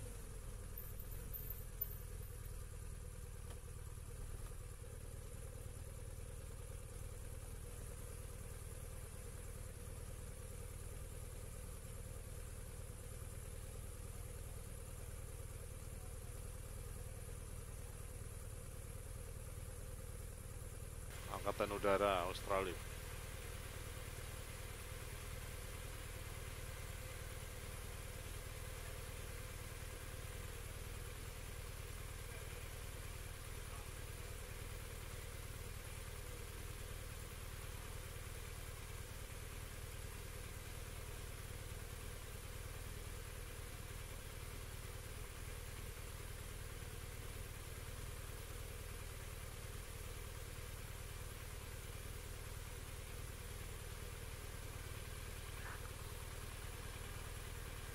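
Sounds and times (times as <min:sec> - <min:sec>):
vehicle engine humming: 0:00.0 - 0:57.9.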